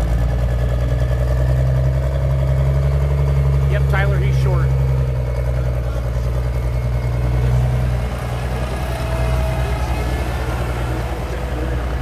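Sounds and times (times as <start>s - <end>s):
diesel engine idling low: 0.0s - 12.0s.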